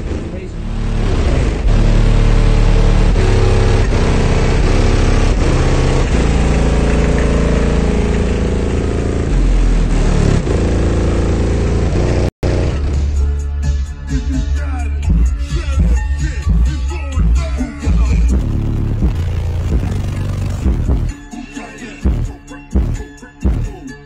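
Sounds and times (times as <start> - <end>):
subwoofer bass-heavy music: 0.0 - 24.0.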